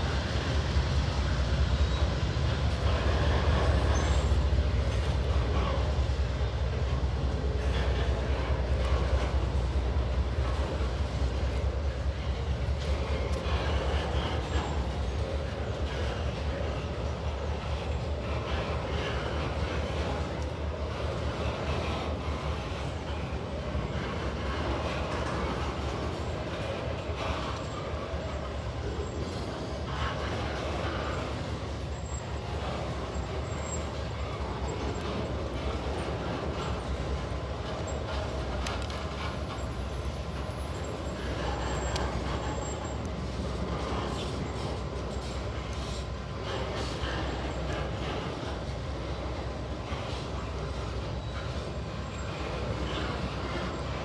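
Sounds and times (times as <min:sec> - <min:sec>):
freight train rumbling past: 0:00.0 - 0:54.0
train wheel clicks: 0:00.0 - 0:54.0.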